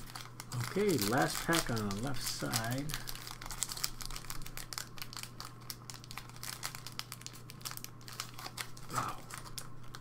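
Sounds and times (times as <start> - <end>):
steady low hum: 0.0 - 10.0
wrapper tearing and crinkling: 0.0 - 10.0.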